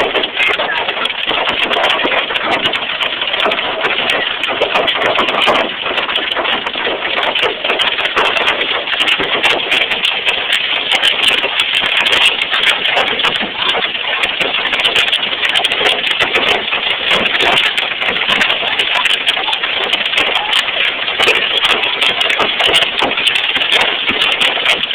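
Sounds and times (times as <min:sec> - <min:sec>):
heavy hail clattering: 0:00.0 - 0:24.9.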